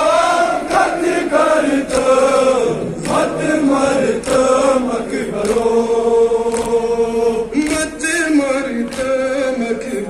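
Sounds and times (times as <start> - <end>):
men chanting a lament: 0.0 - 10.0
sharp slaps keeping time: 0.6 - 9.7.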